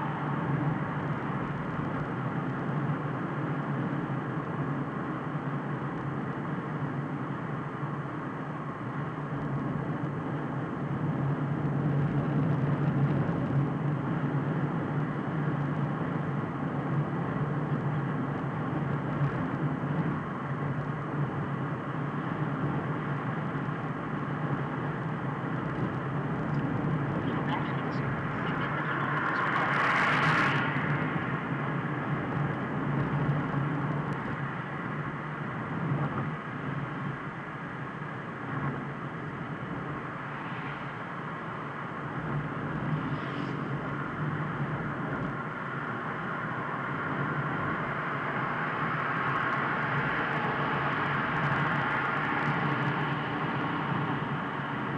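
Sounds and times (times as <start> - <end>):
car road and engine noise: 0.0 - 54.9.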